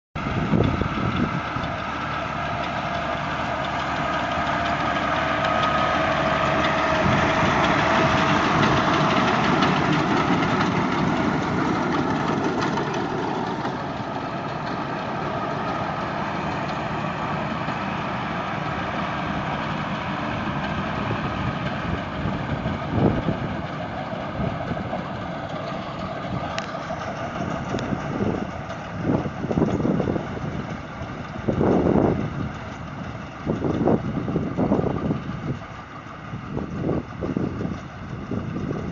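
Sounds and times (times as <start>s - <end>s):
tractor diesel engine running: 0.2s - 38.9s.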